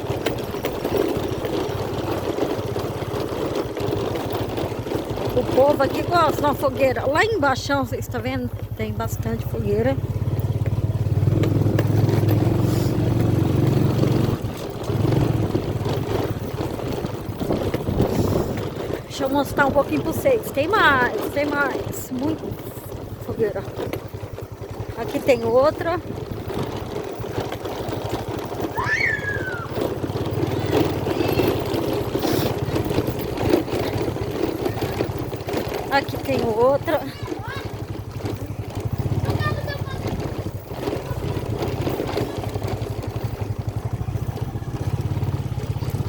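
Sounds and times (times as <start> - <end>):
engine running close by: 0.0 - 46.0.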